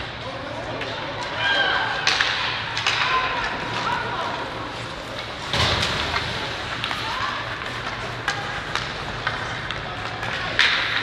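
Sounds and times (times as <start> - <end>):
hockey sticks and puck clacking: 0.0 - 11.0
skates scraping ice: 2.0 - 11.0.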